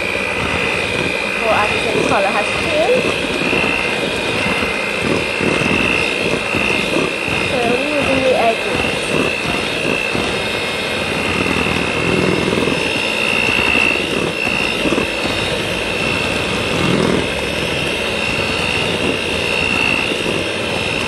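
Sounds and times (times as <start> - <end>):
electric hand mixer whining: 0.0 - 21.0.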